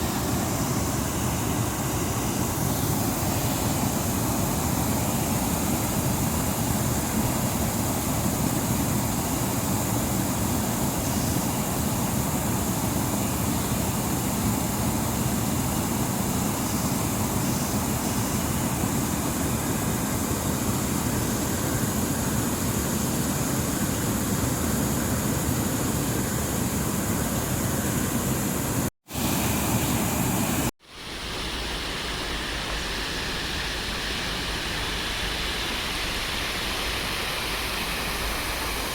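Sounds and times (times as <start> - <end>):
water rushing over a dam: 0.0 - 38.9.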